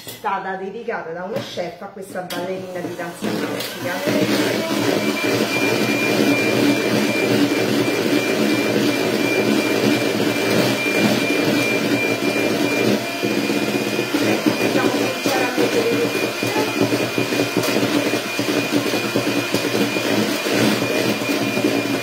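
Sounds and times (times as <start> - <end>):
electric mixer running: 2.3 - 22.0.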